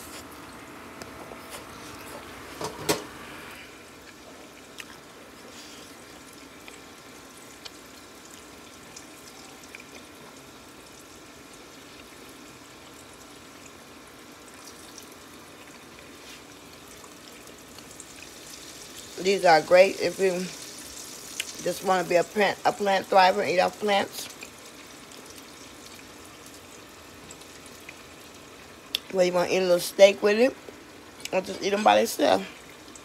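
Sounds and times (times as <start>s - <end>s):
oil sizzling and crackling: 0.0s - 33.0s.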